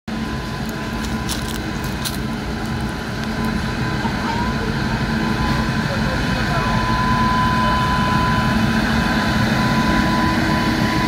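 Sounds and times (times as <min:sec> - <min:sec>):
electric locomotive humming: 0:00.1 - 0:11.0.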